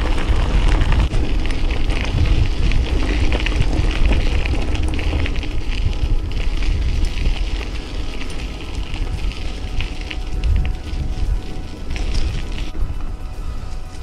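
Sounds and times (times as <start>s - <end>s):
tyres crackling over loose ground: 0.0s - 14.0s
wind buffeting microphone: 0.0s - 14.0s.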